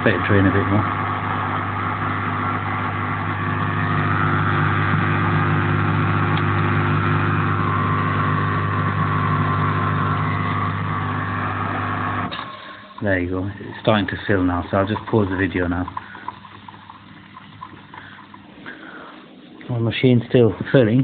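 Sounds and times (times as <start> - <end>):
water rushing through pump: 0.0 - 19.9
dishwasher drain pump humming: 0.0 - 21.0.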